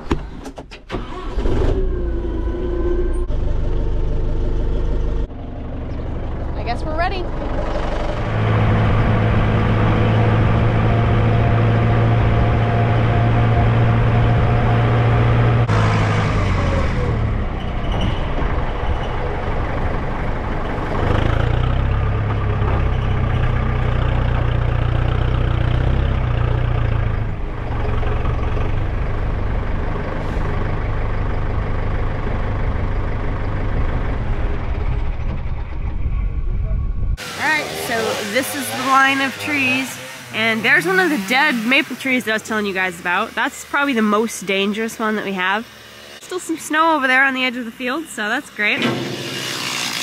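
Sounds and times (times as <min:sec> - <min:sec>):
tractor diesel engine droning: 0:00.8 - 0:50.0.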